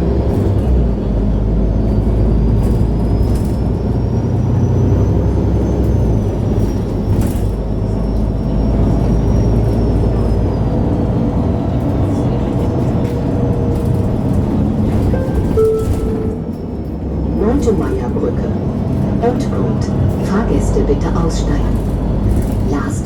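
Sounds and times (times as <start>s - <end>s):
bus diesel engine drone: 0.0s - 23.0s.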